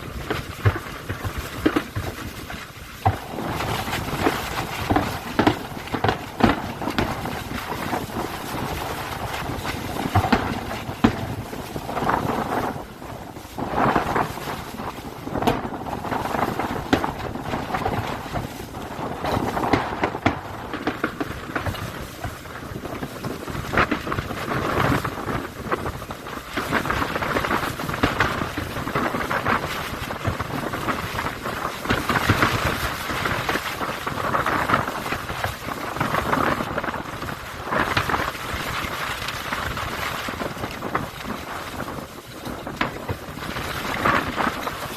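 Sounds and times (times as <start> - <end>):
firework bangs: 0.0 - 44.9
firework crackle: 0.0 - 44.9.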